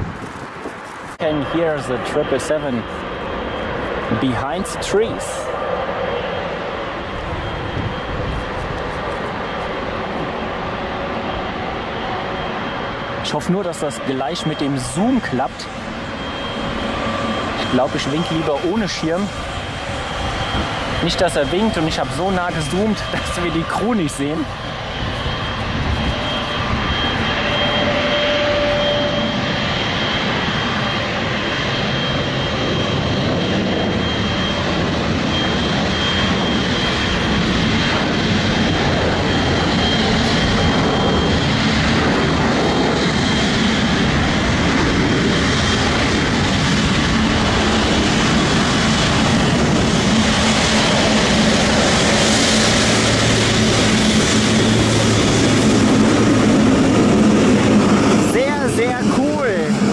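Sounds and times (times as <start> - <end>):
faint engine whine: 0.0 - 59.9
jet engines rushing: 0.0 - 59.9.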